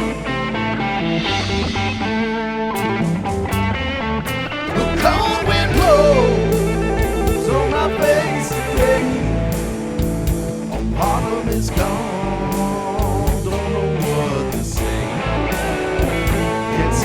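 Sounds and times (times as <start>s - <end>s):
electric guitar lead: 0.0s - 17.0s
steady drum beat: 0.0s - 17.0s
sustained guitar chords: 0.0s - 17.0s.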